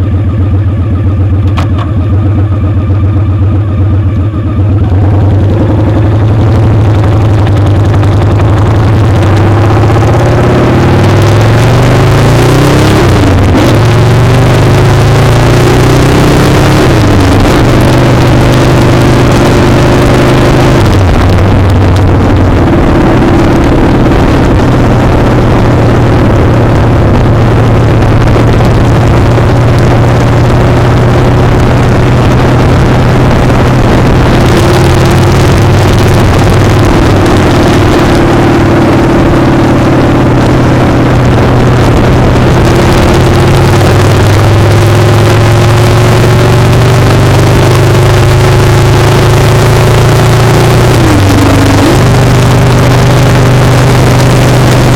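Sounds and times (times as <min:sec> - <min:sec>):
motorcycle engine running: 0:00.0 - 0:54.9
wind and road rush: 0:00.0 - 0:54.9.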